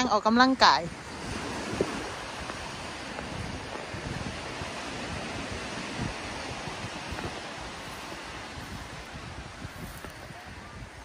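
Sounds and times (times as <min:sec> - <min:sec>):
sea surf washing: 0:00.0 - 0:11.0
wind buffeting microphone: 0:00.0 - 0:11.0.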